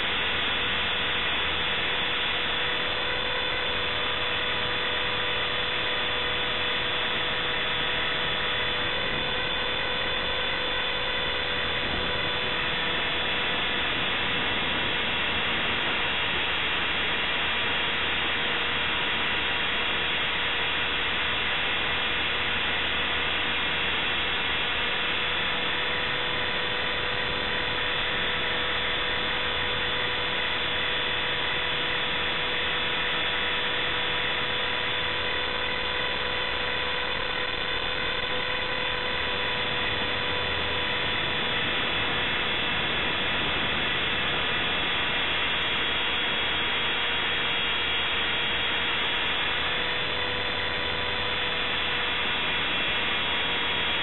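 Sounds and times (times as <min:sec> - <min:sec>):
helicopter rotor noise: 0:00.0 - 0:54.0
high-pitched motor and gear whine: 0:00.0 - 0:54.0.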